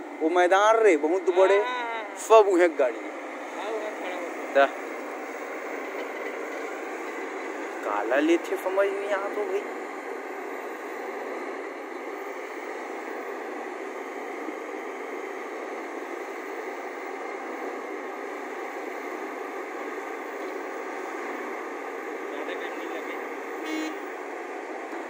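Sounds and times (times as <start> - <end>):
excavator diesel engines running: 0.0 - 25.0.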